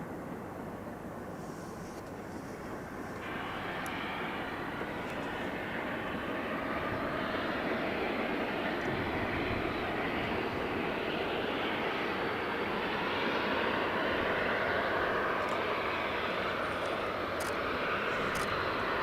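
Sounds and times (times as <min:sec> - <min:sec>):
train passing rumble: 0:00.0 - 0:19.0.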